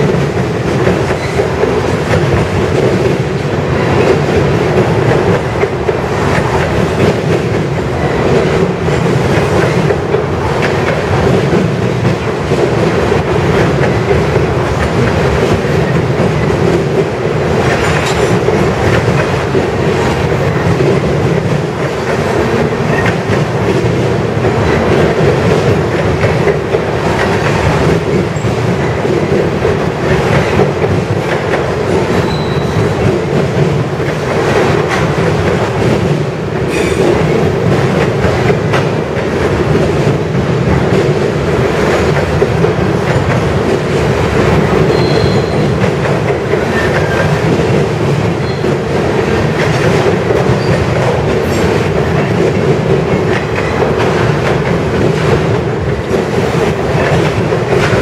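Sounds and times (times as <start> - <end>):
steel wheels running on rails: 0.0 - 58.0
wheels clacking over rail joints: 0.0 - 58.0.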